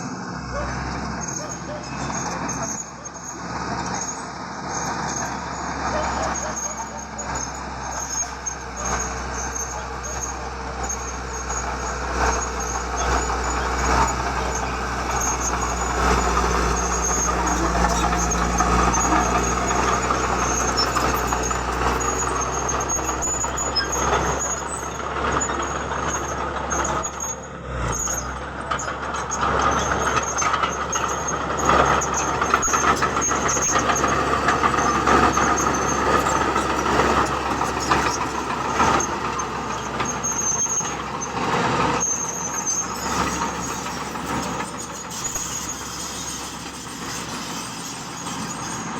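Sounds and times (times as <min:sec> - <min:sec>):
diesel machinery running: 0:00.0 - 0:48.9.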